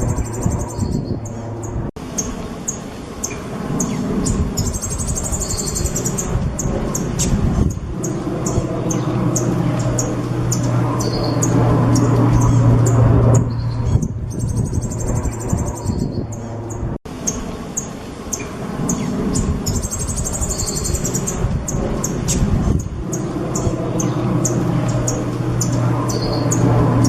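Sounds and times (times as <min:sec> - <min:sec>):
songbird chirping and trilling: 0:00.0 - 0:27.0
steady low hum: 0:00.0 - 0:27.0.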